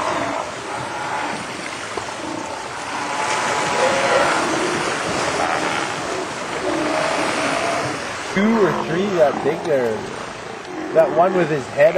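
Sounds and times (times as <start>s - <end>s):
boat noise: 0.0s - 11.9s
water washing: 0.0s - 11.9s.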